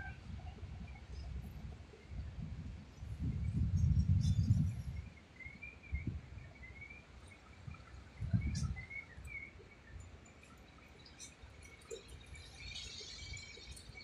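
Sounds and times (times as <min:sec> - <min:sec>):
wind buffeting microphone: 0:00.0 - 0:06.6, 0:07.5 - 0:14.0.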